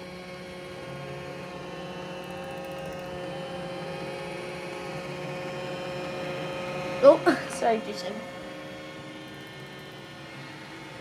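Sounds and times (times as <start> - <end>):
robot vacuum humming and whining: 0.0 - 11.0.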